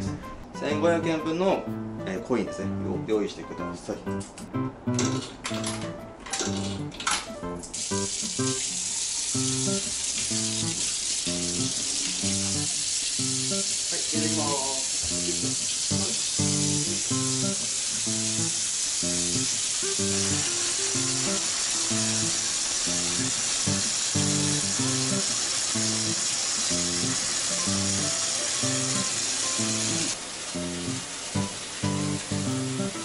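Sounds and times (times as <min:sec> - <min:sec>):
music with plucked notes: 0:00.0 - 0:33.0
water running into a bathtub: 0:06.3 - 0:33.0.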